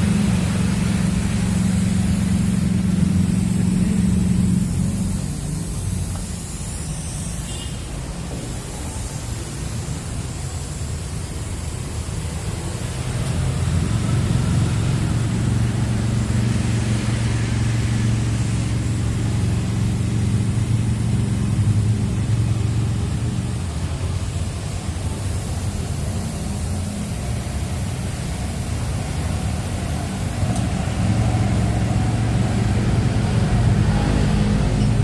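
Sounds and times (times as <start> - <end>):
car engine running: 0.0 - 6.9, 12.5 - 35.0
hiss of noise: 0.0 - 35.0.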